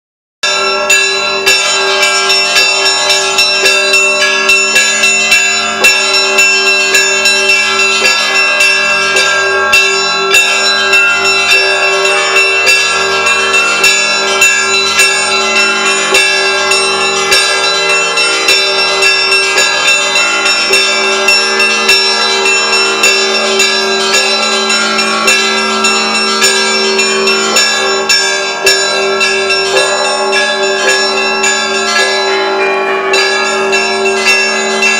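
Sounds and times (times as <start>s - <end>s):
deep bell tolling: 0.4s - 34.9s
large bells ringing: 0.4s - 34.9s
small bells ringing rapidly: 0.4s - 34.9s.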